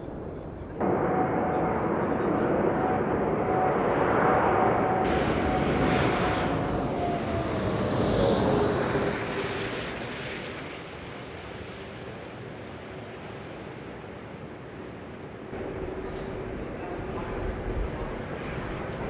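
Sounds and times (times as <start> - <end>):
jet flying past: 0.2 - 19.0.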